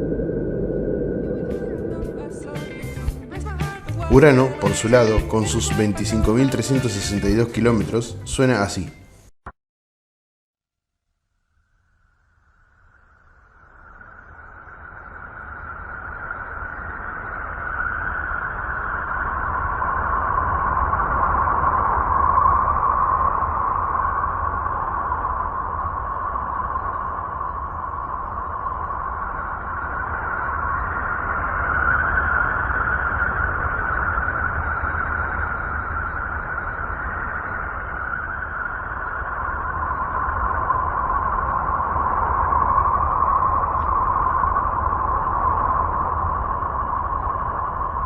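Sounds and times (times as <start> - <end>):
low rumble: 0.0 - 7.7, 13.0 - 48.0
eerie rushing hiss: 0.0 - 8.7, 12.4 - 48.0.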